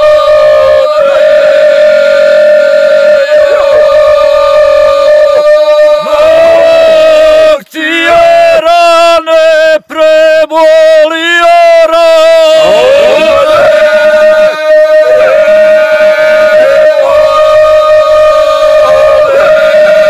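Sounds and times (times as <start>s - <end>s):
men singing in harmony: 0.0s - 20.0s.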